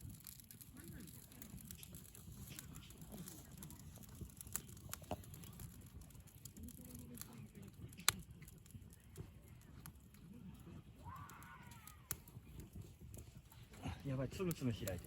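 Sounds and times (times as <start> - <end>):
campfire crackling: 0.0 - 15.0
fire popping and snapping: 0.0 - 15.0.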